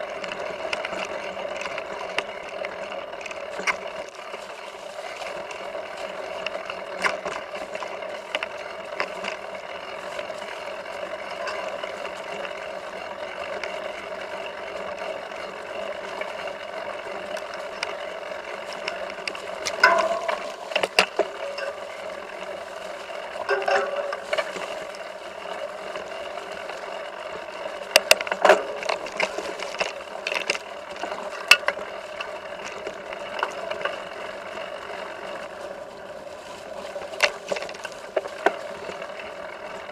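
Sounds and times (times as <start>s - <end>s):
bike chain and frame rattling: 0.0s - 39.9s
bike clacking over bumps: 0.0s - 39.9s.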